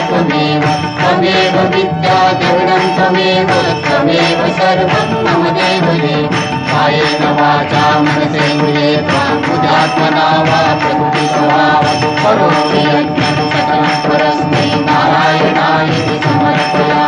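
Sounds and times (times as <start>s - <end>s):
chant-like singing: 0.0s - 17.0s
sharp percussive strokes: 0.0s - 17.0s
steady held drone: 0.0s - 17.0s.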